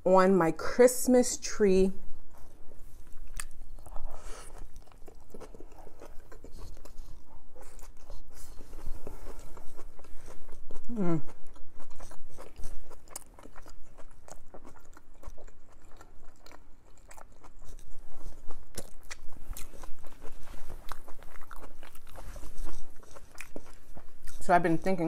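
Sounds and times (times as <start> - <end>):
person chewing food: 2.2 - 25.0.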